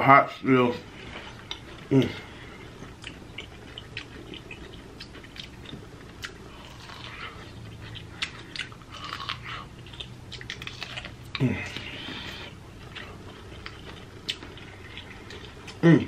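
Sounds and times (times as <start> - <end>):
chewing corn on the cob: 1.0 - 16.0.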